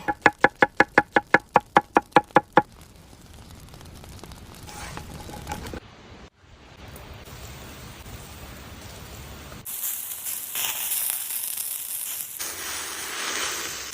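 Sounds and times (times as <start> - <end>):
meat sizzling over fire: 0.0 - 5.8, 6.7 - 13.9.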